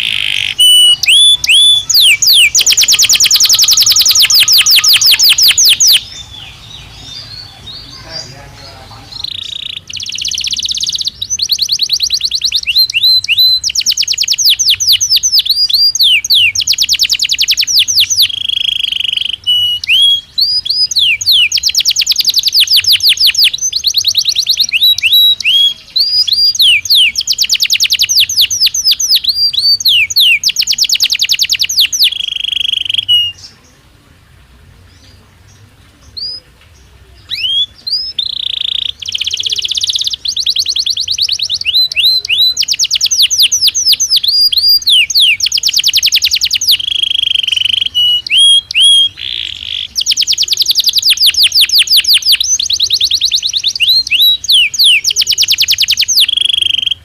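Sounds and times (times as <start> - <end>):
canary singing trills: 0.0 - 33.9, 34.8 - 57.0.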